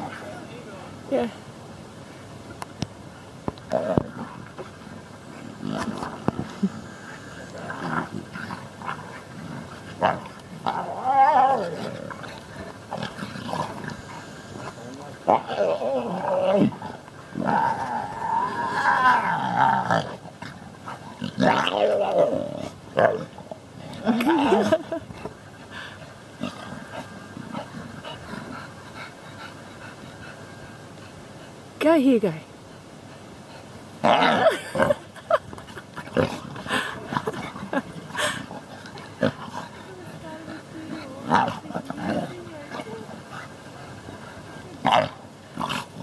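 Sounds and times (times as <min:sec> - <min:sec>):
animals growling: 0:03.6 - 0:31.2, 0:33.5 - 0:46.0.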